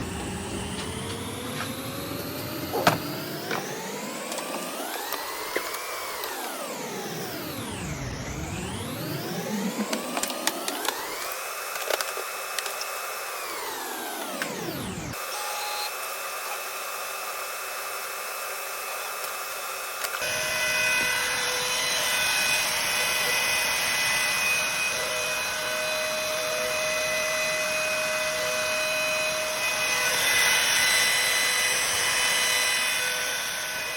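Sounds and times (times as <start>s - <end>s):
cnc router routing wood: 0.0s - 33.9s.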